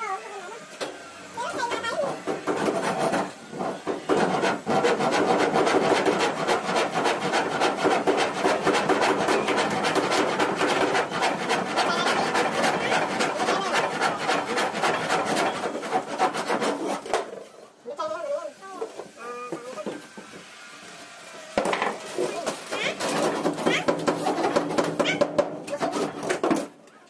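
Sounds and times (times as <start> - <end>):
handsaw cutting board: 1.4 - 17.6, 18.7 - 26.7.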